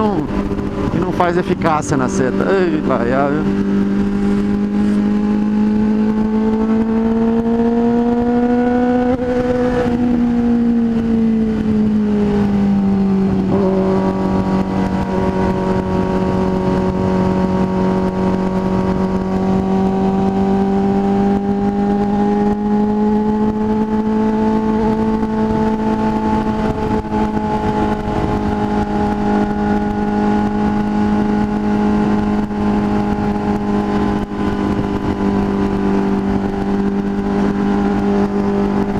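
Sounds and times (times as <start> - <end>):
motorcycle engine drone: 0.0 - 38.9
wind rush: 0.0 - 38.9.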